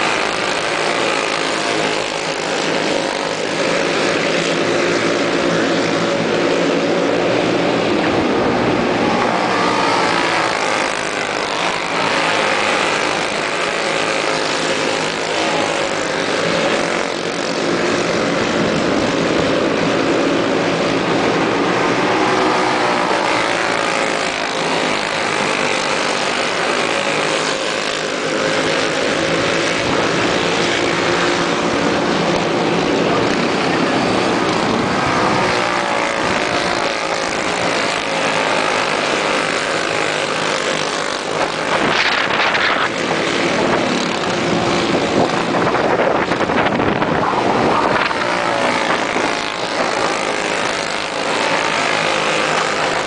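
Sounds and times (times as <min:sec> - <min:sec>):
racing kart engines: 0:00.0 - 0:53.0.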